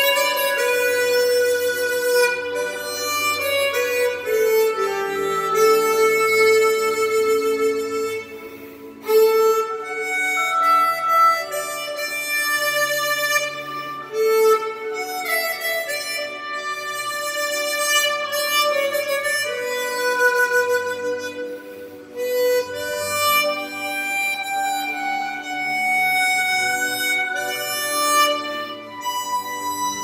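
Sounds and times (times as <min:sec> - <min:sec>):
harmonica playing slow melody: 0:00.0 - 0:30.0
soft recorded accompaniment: 0:00.0 - 0:30.0.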